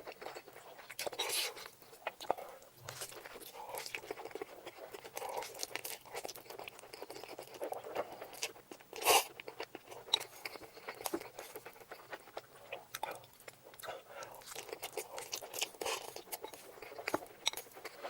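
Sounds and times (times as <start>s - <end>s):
mouth clicks and crunches: 0.0s - 18.0s
wet chewing: 0.0s - 18.0s.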